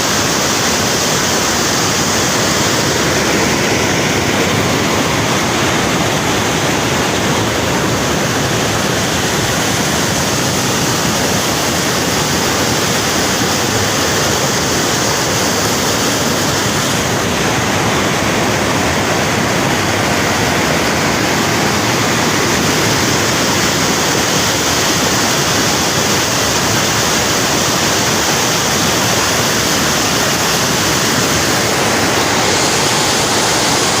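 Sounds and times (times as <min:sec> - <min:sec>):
rushing water: 0:00.0 - 0:34.0.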